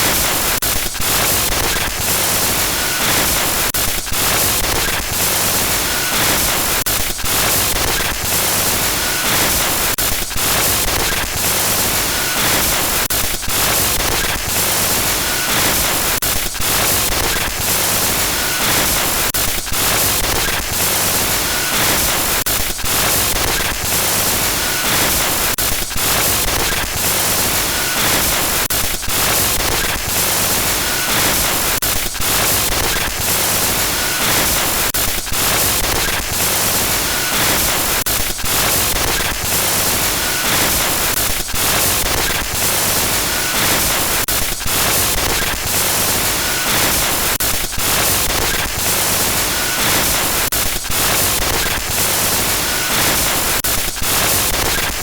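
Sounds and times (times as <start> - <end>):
glitchy static hiss: 0.0 - 55.0.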